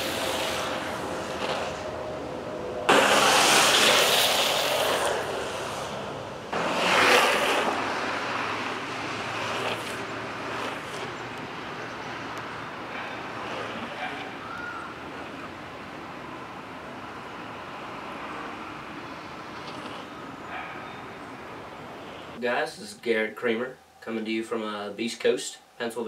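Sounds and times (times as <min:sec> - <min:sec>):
longboard wheels sliding on asphalt: 0:00.0 - 0:22.4
wheels rolling hiss: 0:00.0 - 0:22.4.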